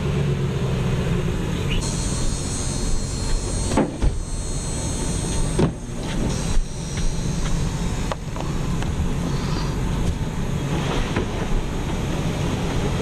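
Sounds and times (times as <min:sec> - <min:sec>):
car interior road noise: 0:00.0 - 0:13.0.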